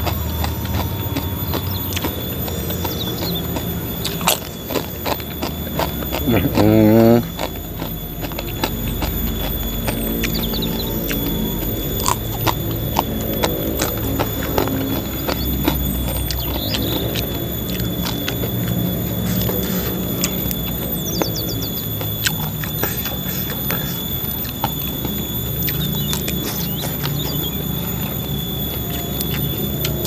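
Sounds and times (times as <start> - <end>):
man chewing: 0.0 - 30.0
sharp clicks and crunches: 0.0 - 30.0.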